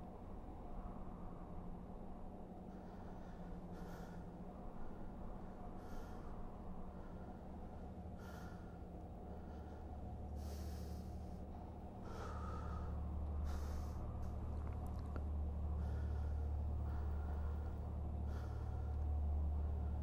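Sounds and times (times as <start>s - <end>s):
steady low hum: 0.0s - 20.0s
man breathing heavily: 2.6s - 20.0s.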